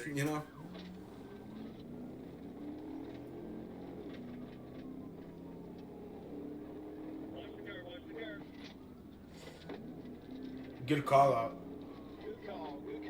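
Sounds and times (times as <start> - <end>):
car engine revving: 0.0 - 13.0
road noise: 0.0 - 13.0.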